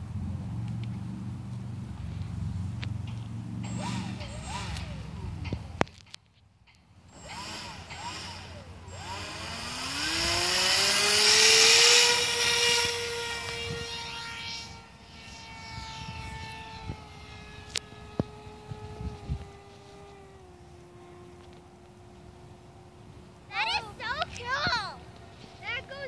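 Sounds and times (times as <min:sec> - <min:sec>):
model plane motor whining: 0:00.0 - 0:26.0.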